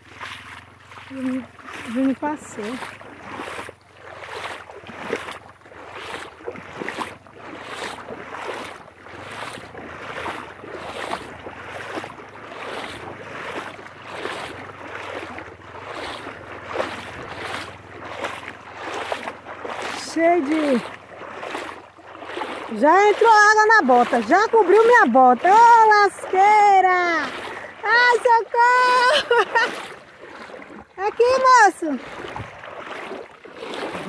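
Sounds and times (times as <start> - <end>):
boots wading through river: 0.0 - 34.0.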